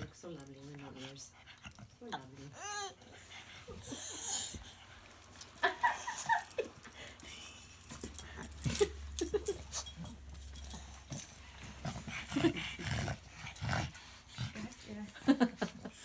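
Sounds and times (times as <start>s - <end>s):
puppy breathing and sniffing: 0.0s - 16.0s.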